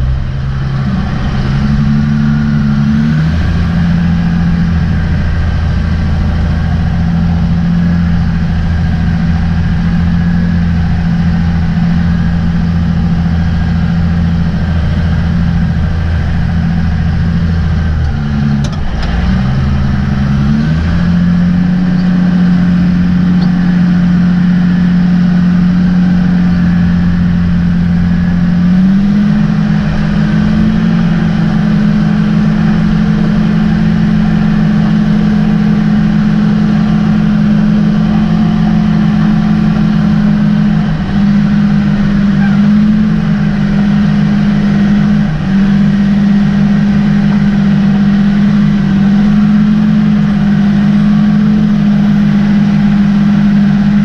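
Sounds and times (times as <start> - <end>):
diesel engine running in cab: 0.0 - 54.0.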